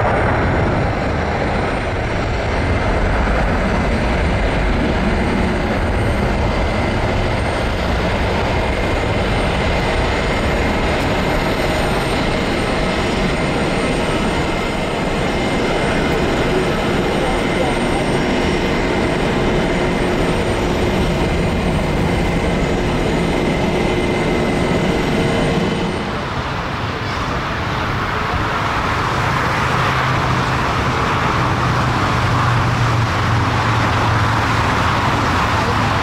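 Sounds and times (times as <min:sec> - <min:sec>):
jet airliner engines taxiing: 0:00.0 - 0:36.0
jet engines at climb power: 0:00.0 - 0:36.0.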